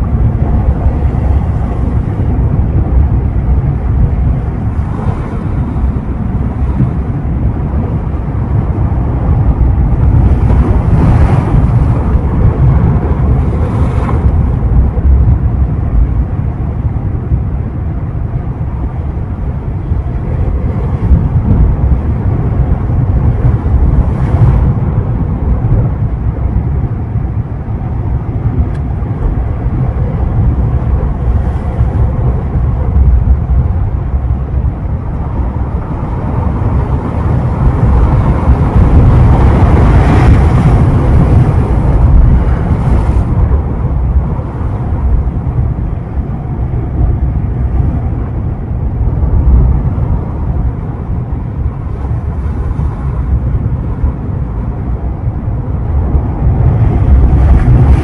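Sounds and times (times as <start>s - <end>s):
sea waves breaking on shore: 0.0s - 58.0s
wind rumble on microphone: 0.0s - 58.0s.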